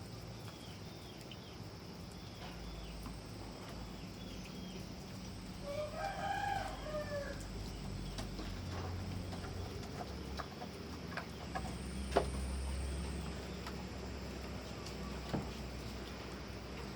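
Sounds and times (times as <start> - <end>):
rain drips and taps: 0.0 - 16.9.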